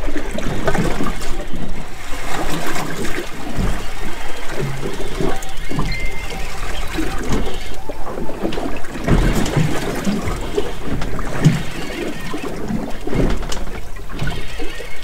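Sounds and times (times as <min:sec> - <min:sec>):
waves slapping against boat hull: 0:00.0 - 0:15.0.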